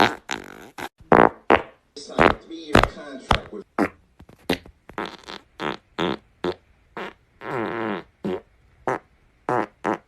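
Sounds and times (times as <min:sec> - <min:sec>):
farts: 0:00.0 - 0:02.4, 0:03.8 - 0:10.0.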